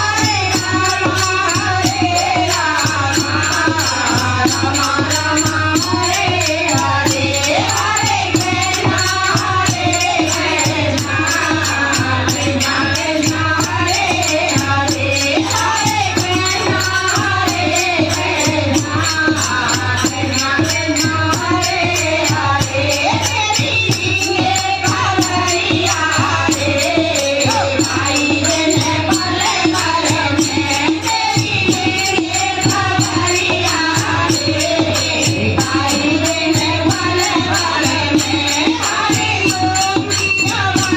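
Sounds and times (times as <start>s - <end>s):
hand percussion beat: 0.0s - 40.9s
voices singing a devotional song: 0.0s - 40.9s.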